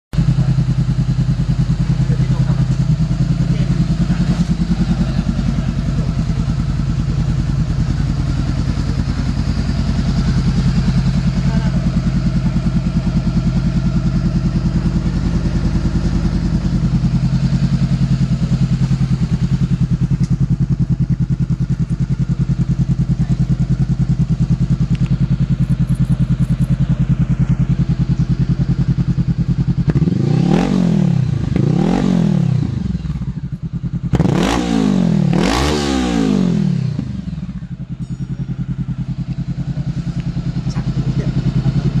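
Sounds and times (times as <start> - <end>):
motorcycle engine idling and revving: 0.2 - 42.0.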